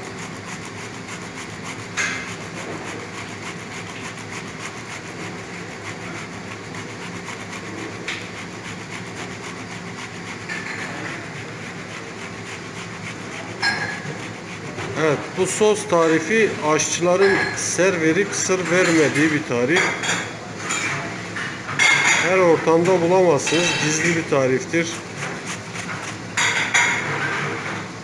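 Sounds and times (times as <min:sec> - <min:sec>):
tomato rasping on a grater: 0:00.0 - 0:20.9, 0:21.7 - 0:27.8.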